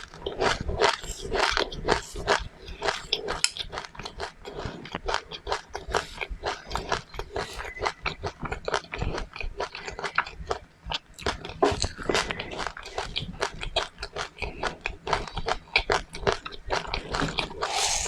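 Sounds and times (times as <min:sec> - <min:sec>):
person chewing crunchy seeds: 0:00.0 - 0:18.0.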